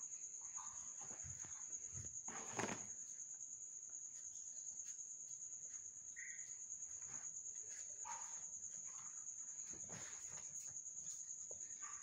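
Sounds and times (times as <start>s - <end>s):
cricket chirring: 0.0s - 12.0s.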